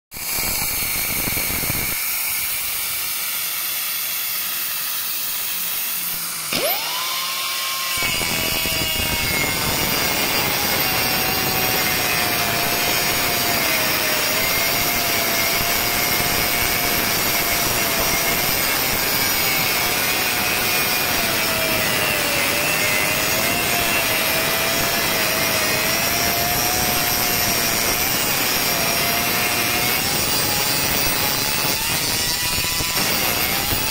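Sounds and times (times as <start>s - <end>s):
circular saw cutting stone: 0.1s - 33.9s.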